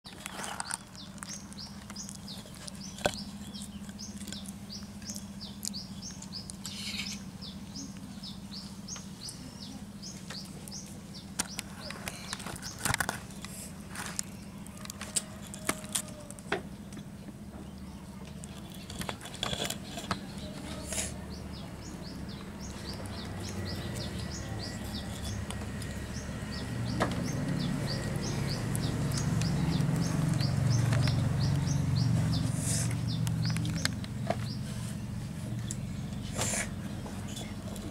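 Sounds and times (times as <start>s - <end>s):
small birds chirping: 0.1s - 37.9s
steady low hum: 0.1s - 37.9s.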